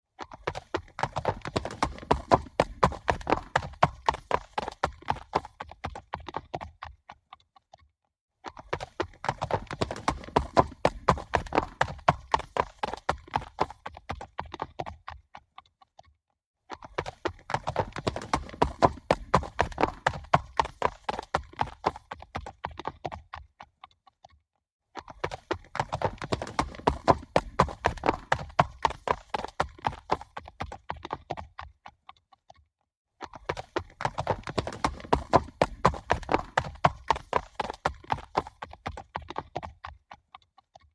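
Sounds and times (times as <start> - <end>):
horses galloping: 0.2 - 7.0, 8.4 - 15.2, 16.7 - 23.7, 25.0 - 31.7, 33.2 - 40.2.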